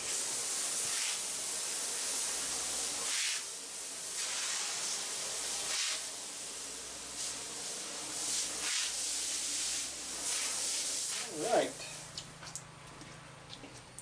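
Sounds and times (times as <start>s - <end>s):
hose water spray hissing: 0.0s - 12.3s.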